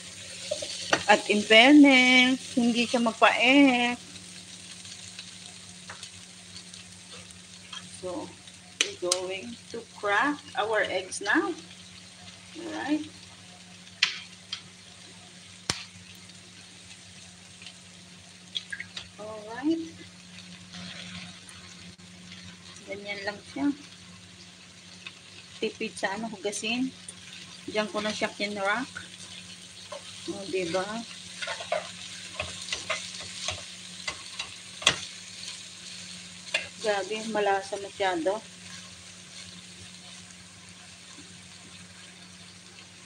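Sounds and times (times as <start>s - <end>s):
faint frying in a pot: 0.0s - 43.0s
food sizzling: 0.0s - 43.0s.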